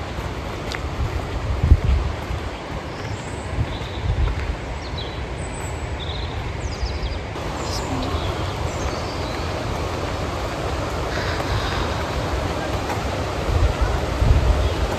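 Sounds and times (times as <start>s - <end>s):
wind and rain: 0.0s - 14.9s
wind gusts buffeting microphone: 0.0s - 14.9s.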